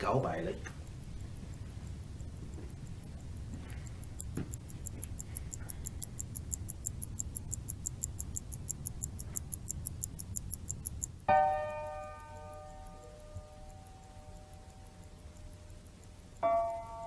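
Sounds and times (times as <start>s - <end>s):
low steady hum: 0.0s - 17.0s
rapid even ticking: 0.0s - 17.0s.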